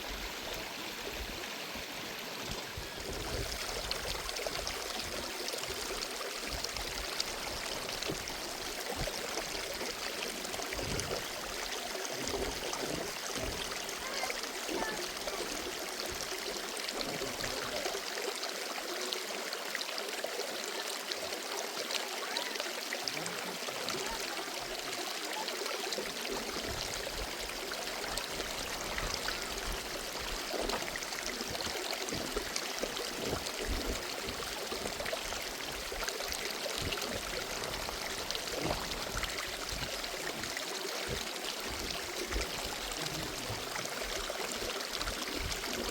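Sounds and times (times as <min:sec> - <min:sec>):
water running: 0:02.4 - 0:18.3, 0:22.0 - 0:45.9.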